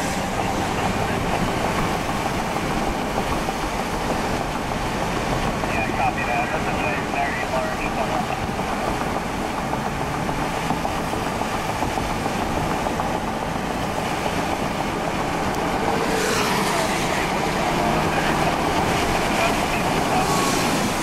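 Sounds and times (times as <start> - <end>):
road and tyre noise inside car: 0.0 - 21.0.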